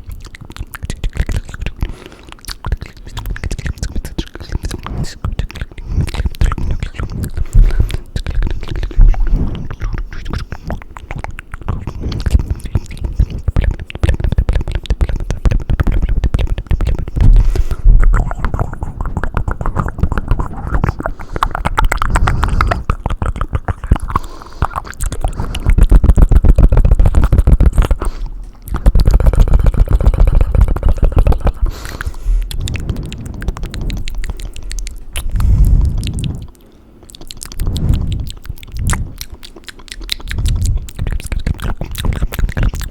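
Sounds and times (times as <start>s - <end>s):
wet mouth and tongue sounds: 0.0s - 42.9s.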